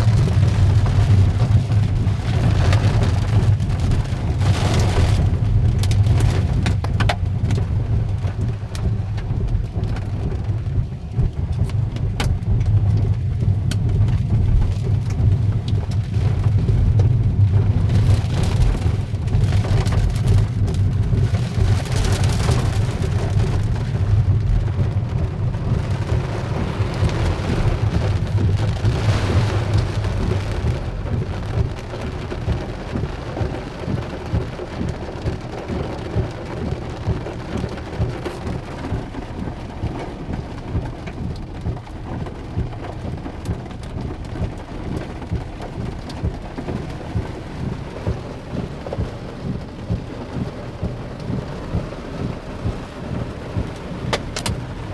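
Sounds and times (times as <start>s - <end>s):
heavy rain and hail pouring: 0.0s - 54.9s
low rumble: 0.0s - 54.9s.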